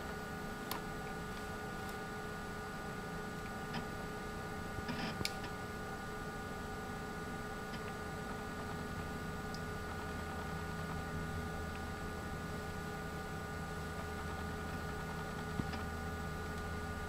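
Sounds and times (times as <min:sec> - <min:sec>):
computer electrical hum: 0:00.0 - 0:17.0.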